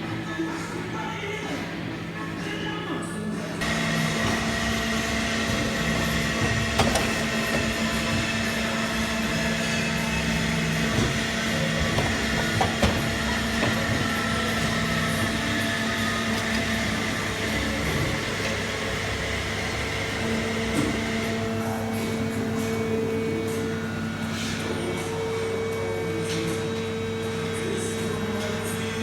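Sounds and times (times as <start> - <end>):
machine motor hum: 3.6 - 29.0.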